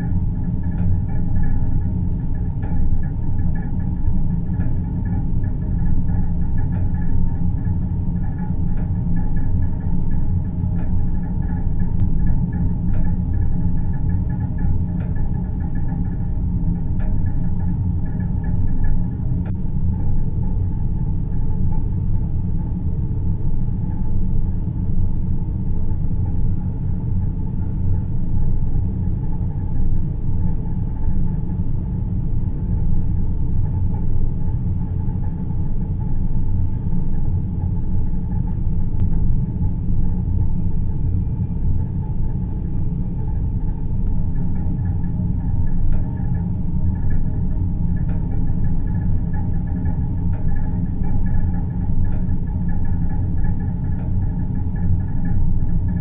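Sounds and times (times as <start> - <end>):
faint hum-like tones: 0.0 - 56.0
steady low rumble: 0.0 - 56.0.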